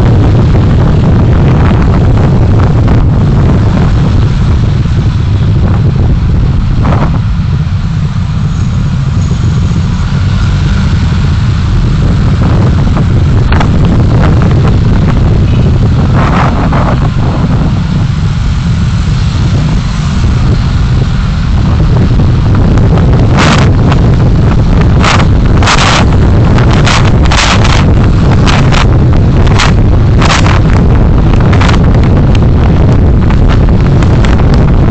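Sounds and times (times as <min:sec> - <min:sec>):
car road and wind noise: 0:00.0 - 0:34.9
passing traffic swishes: 0:00.0 - 0:34.9.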